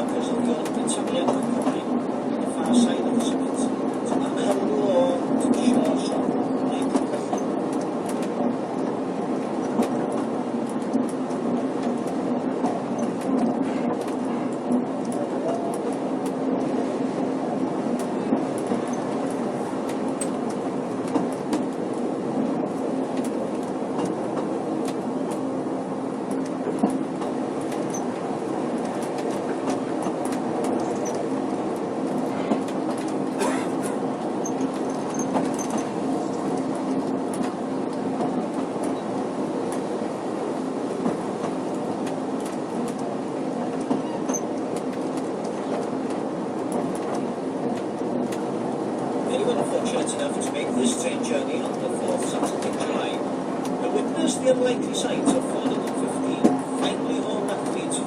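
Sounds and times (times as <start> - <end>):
train running with low drone: 0.0 - 58.0.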